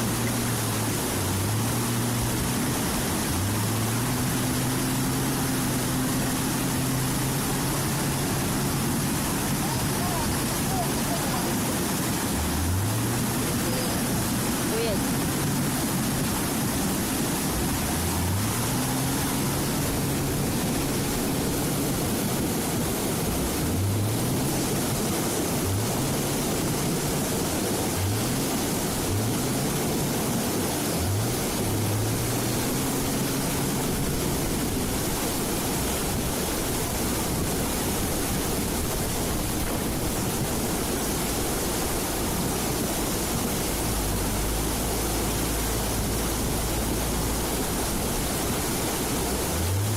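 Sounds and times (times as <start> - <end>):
bulldozer diesel engine revving: 0.0 - 49.9
loud rushing noise: 0.0 - 49.9.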